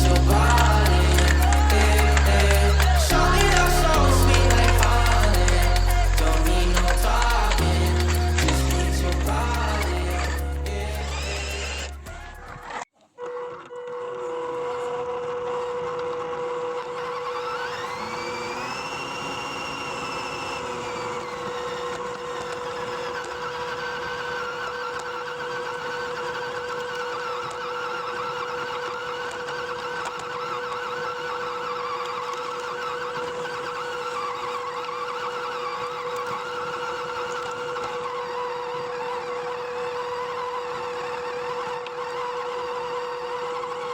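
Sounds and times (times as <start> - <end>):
toy car electric motor whirring: 0.0 - 43.9.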